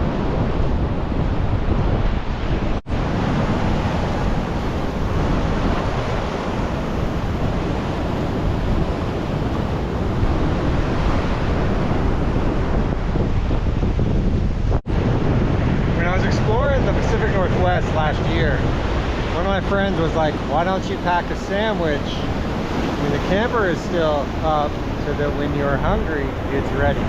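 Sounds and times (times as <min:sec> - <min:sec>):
ocean surf breaking on beach: 0:00.0 - 0:27.0
wind buffeting microphone: 0:00.0 - 0:27.0.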